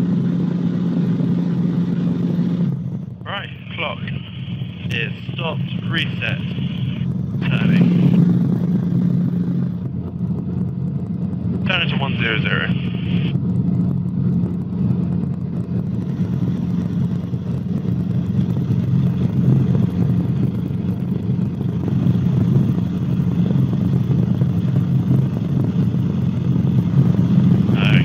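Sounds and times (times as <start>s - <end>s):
helicopter cabin drone: 0.0s - 28.0s.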